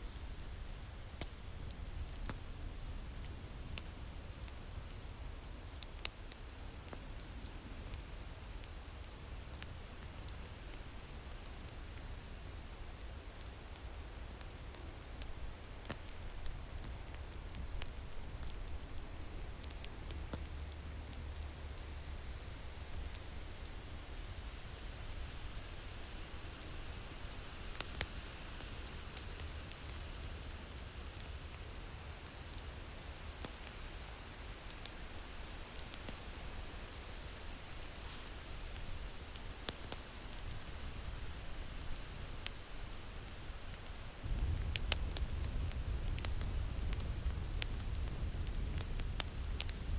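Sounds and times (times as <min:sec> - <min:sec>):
wood fire crackling and popping: 0:00.1 - 0:49.9.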